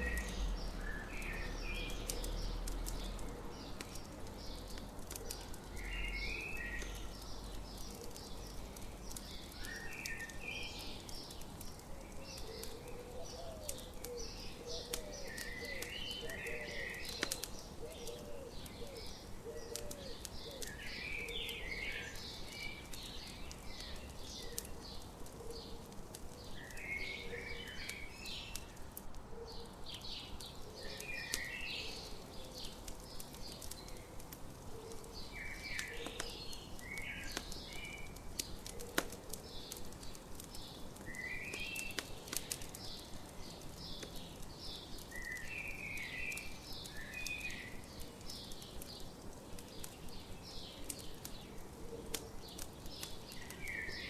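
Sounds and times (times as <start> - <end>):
birds chirping: 0.0 - 54.0
campfire crackling and popping: 0.0 - 54.0.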